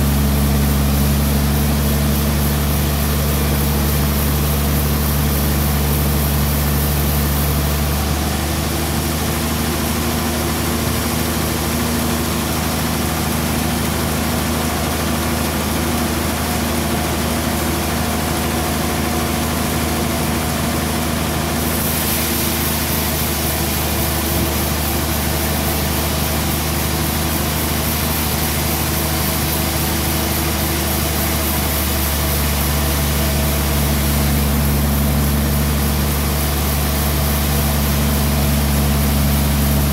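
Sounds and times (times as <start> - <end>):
band saw machinery drone: 0.0 - 39.9.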